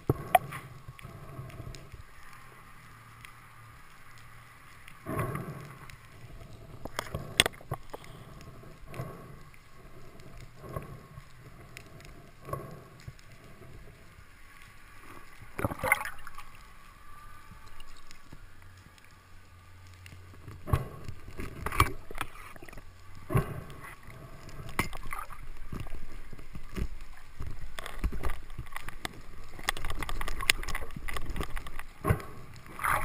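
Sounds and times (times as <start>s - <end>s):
underwater hiss and hum: 0.0s - 33.0s.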